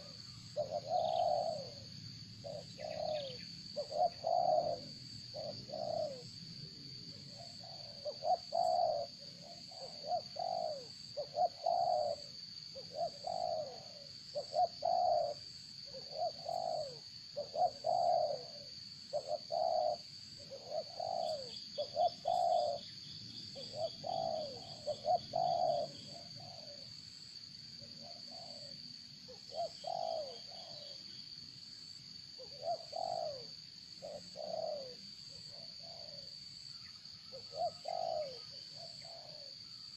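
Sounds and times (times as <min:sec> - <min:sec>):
bird cooing: 0:00.0 - 0:27.1, 0:27.8 - 0:31.4, 0:32.3 - 0:39.9.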